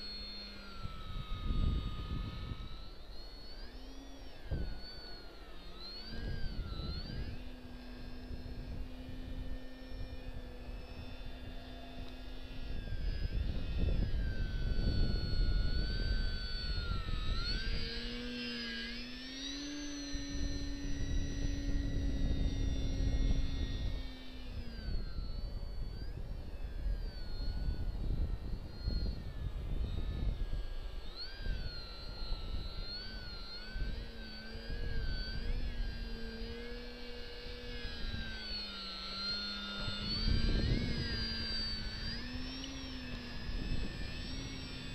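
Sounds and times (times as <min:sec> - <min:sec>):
wind rumbling on microphone: 0:00.0 - 0:03.0, 0:04.4 - 0:05.1, 0:05.8 - 0:18.4, 0:19.5 - 0:44.9
electric model plane motor whining: 0:00.0 - 0:44.9.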